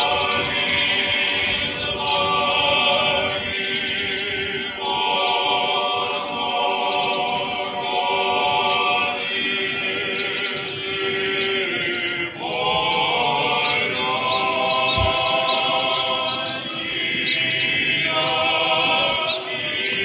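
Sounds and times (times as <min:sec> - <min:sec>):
choir chanting a cappella: 0:00.0 - 0:20.0.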